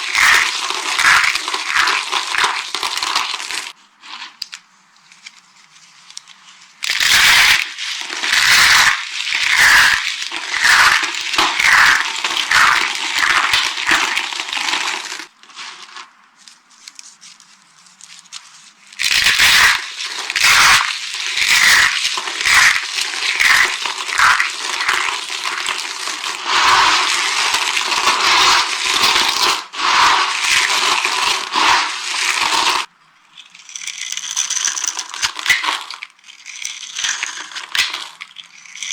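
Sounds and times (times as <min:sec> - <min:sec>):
dry soap crackling crunch: 0:00.0 - 0:38.9.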